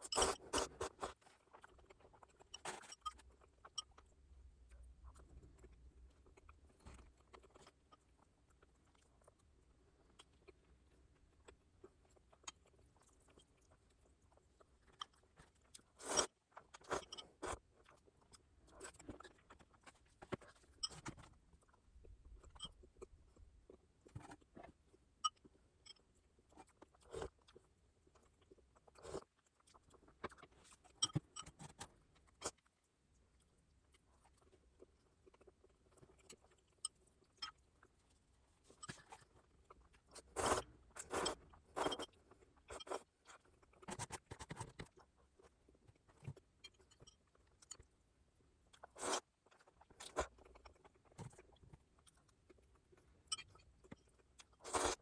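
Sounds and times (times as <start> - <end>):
chewing and biting food: 0.0 - 38.0, 48.7 - 55.0.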